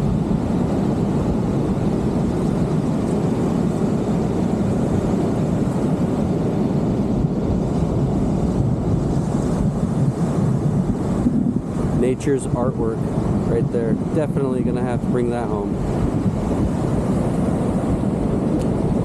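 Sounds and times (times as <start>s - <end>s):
ocean surf rushing: 0.0s - 19.0s
wind noise on microphone: 0.0s - 19.0s.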